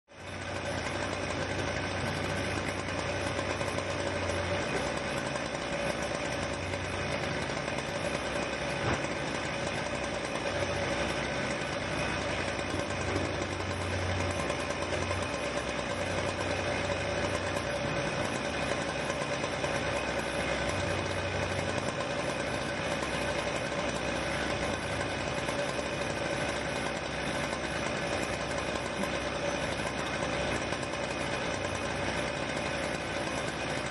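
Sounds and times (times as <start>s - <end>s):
diesel engines droning: 0.1s - 33.9s.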